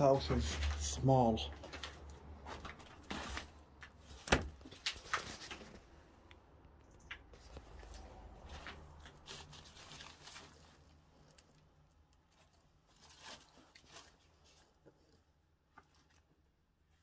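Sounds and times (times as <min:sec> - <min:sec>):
faint crackles and rustles: 0:01.6 - 0:17.0.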